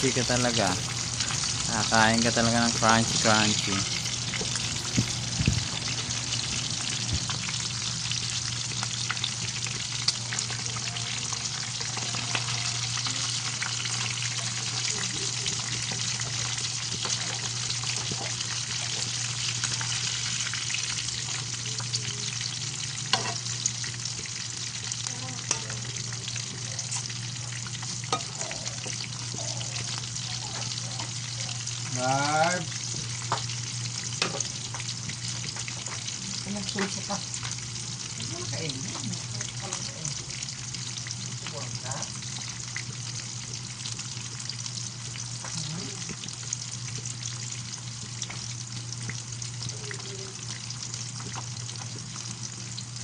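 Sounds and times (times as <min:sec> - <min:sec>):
fish frying in hot oil: 0:00.0 - 0:53.0.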